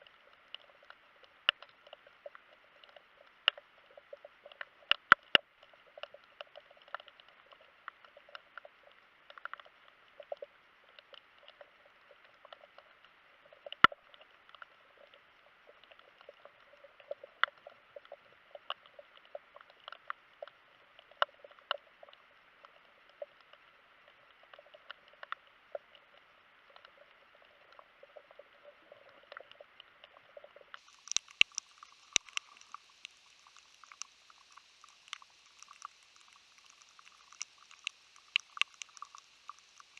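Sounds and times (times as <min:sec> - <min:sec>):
muffled underwater hiss: 0:00.0 - 0:39.9
sharp underwater clicks: 0:00.0 - 0:39.9.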